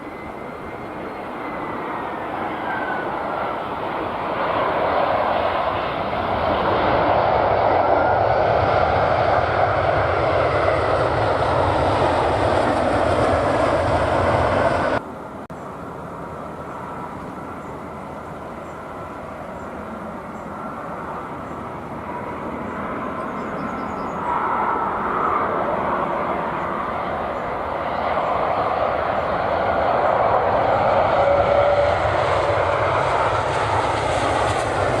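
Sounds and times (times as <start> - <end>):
distant jet engine noise: 0.0 - 35.0
loud jet engines running: 0.0 - 35.0.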